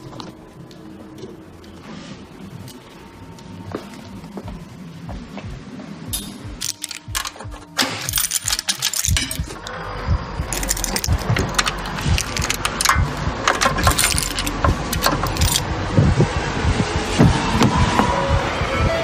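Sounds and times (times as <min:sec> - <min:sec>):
low rumble with rattles: 0:00.0 - 0:19.0.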